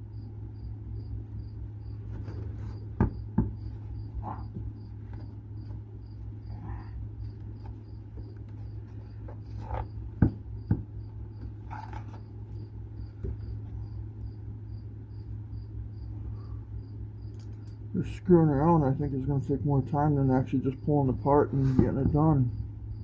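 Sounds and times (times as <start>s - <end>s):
cricket chirping: 0.0s - 23.0s
low hum: 0.0s - 23.0s.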